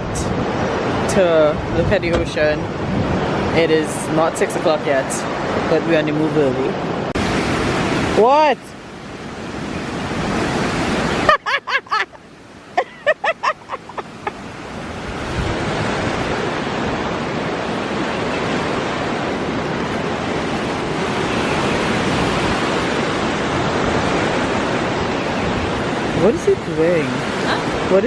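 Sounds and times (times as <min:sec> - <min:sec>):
ocean surf: 0:00.0 - 0:28.0.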